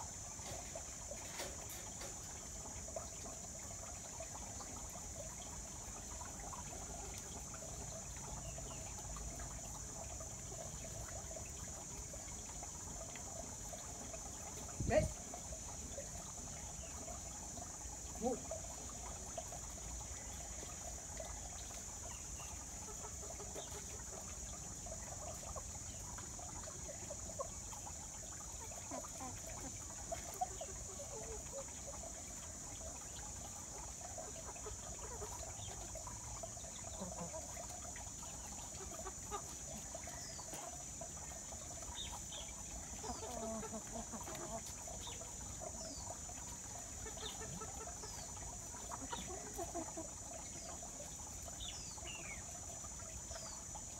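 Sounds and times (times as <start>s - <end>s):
chickens clucking: 0.0s - 53.9s
steady high-pitched hiss: 0.0s - 53.9s.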